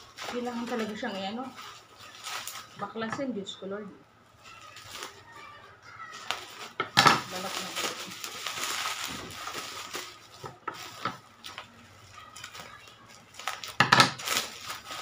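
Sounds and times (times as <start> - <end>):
plastic packaging crinkling: 0.0 - 3.6, 4.4 - 15.0.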